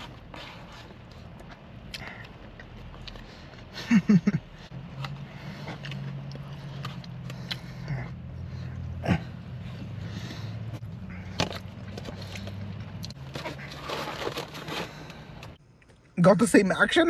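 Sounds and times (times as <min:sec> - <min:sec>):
chewing: 0:00.0 - 0:03.8, 0:04.6 - 0:15.5.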